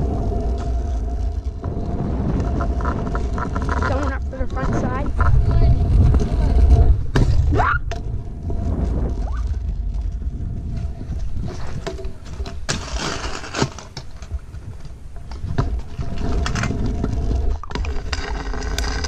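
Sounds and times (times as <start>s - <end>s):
scooter wheels rolling on concrete: 0.0s - 19.0s
wheels knocking on slab joints: 0.0s - 19.0s
wind rumble on microphone: 0.0s - 19.0s.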